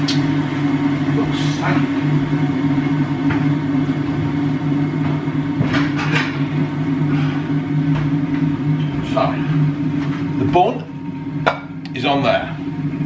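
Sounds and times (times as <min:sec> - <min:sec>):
electric kettle humming: 0:00.0 - 0:13.0.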